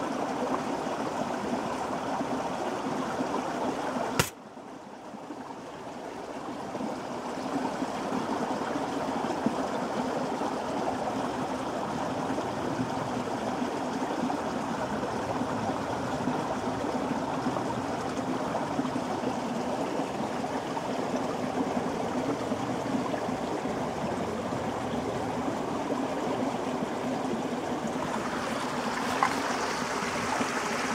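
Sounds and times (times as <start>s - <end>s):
running water rushing: 0.0s - 30.9s.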